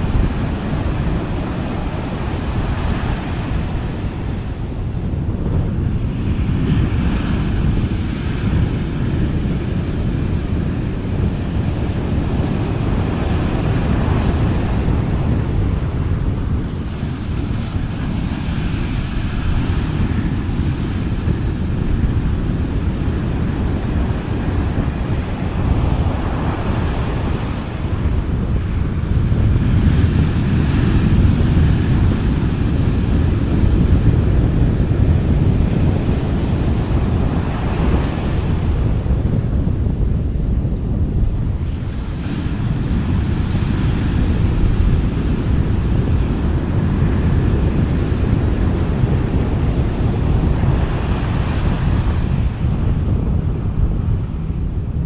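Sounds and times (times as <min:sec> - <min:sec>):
waves washing onto beach: 0:00.0 - 0:55.0
wind on microphone: 0:00.0 - 0:55.0.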